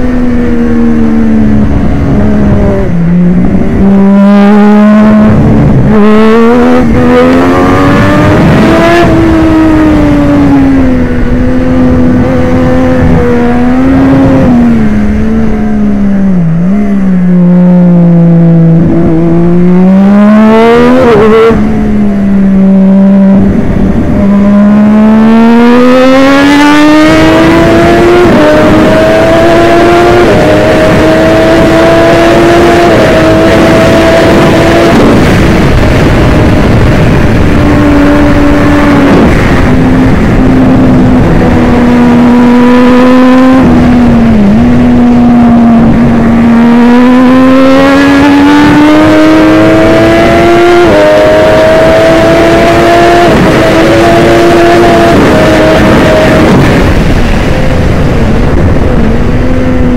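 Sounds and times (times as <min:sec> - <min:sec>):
motorcycle engine at racing speed: 0:00.0 - 0:59.9.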